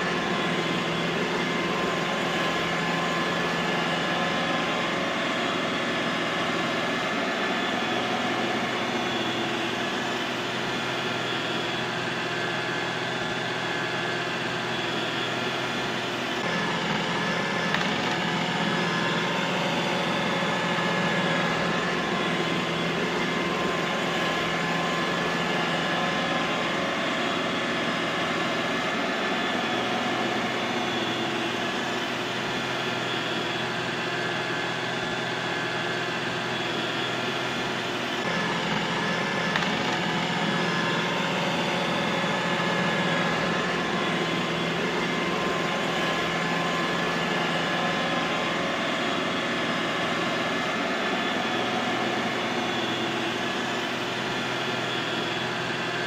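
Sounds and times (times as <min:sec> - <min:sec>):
robot vacuum cleaner whirring: 0:00.0 - 0:56.0.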